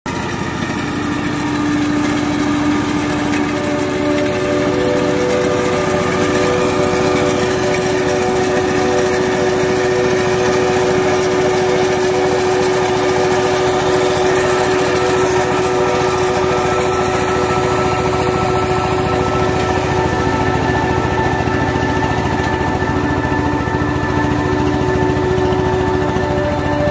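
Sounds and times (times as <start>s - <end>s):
combine harvester engine hum: 0.1s - 26.9s.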